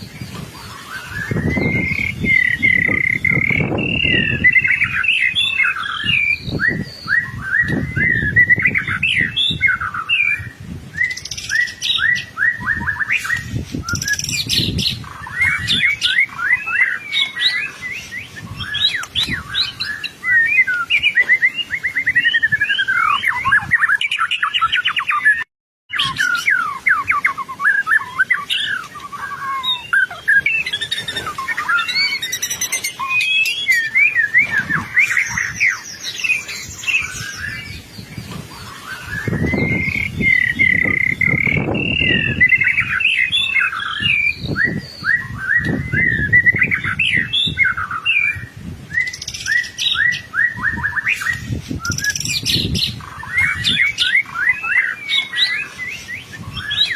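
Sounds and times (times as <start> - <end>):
bird singing whistles and trills: 0.0 - 56.9.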